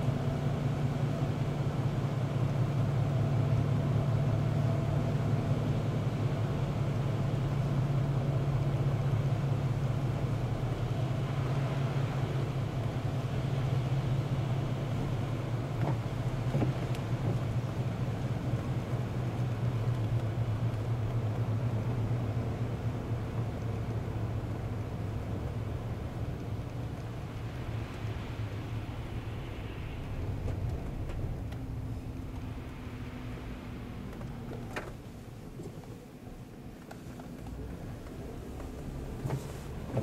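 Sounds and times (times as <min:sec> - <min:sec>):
car engine hum: 0:00.0 - 0:40.0
road noise: 0:00.0 - 0:40.0.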